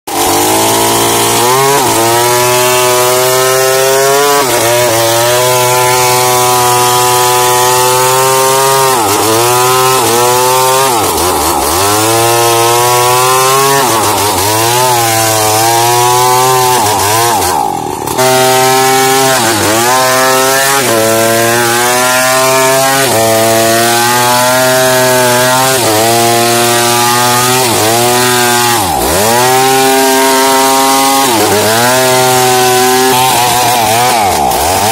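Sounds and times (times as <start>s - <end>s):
chainsaw cutting into tree trunk: 0.1s - 34.9s.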